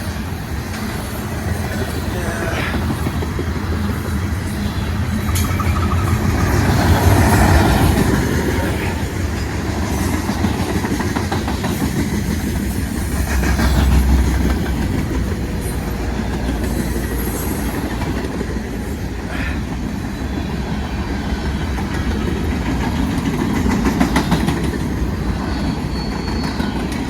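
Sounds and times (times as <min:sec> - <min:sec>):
freight train cars rumbling: 0:00.0 - 0:27.0
steel wheels clacking over rail joints: 0:00.0 - 0:27.0.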